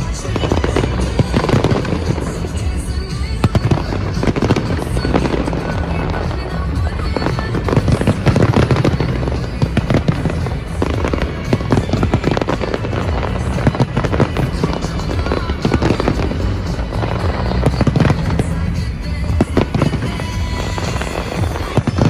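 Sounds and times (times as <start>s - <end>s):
fireworks bangs and crackles: 0.0s - 22.0s
music with low bass: 0.0s - 22.0s.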